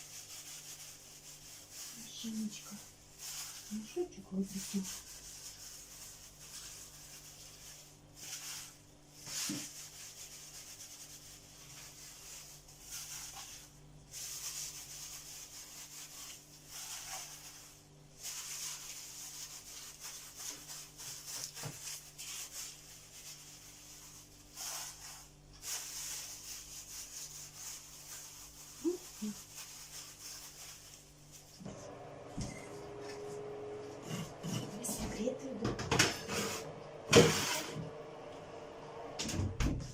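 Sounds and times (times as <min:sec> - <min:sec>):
rubbing and rustling: 0:00.0 - 0:37.7.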